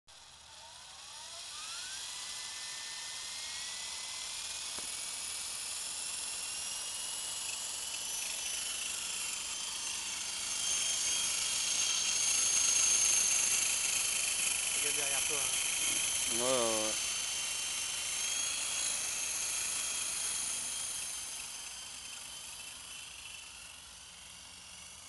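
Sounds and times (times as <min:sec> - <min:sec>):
model helicopter rotor whine: 0:00.1 - 0:25.0.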